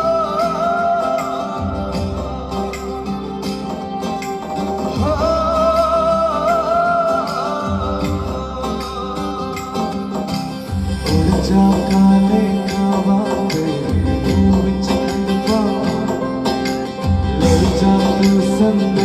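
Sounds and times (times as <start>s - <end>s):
music with steady beat: 0.0s - 19.0s
person singing: 0.0s - 19.0s
plucked strings: 0.0s - 19.0s.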